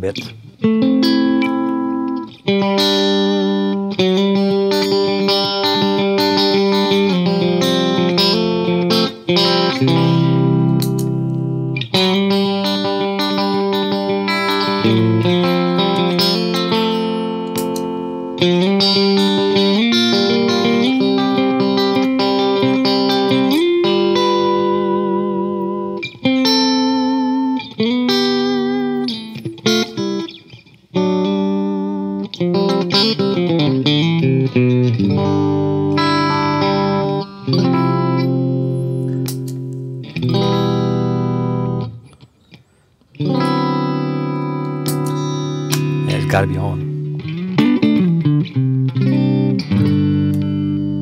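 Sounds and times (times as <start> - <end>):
clean electric guitar: 0.0 - 51.0.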